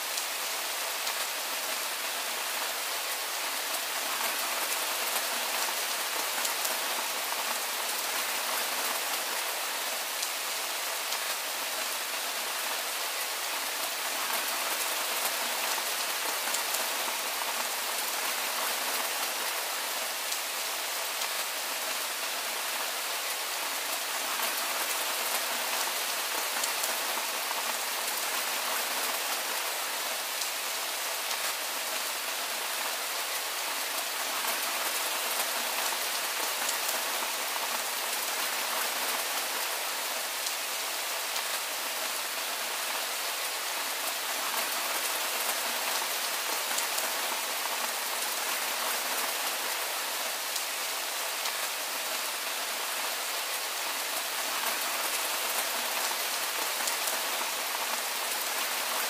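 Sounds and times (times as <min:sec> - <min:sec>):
soft rain falling: 0:00.0 - 0:59.0.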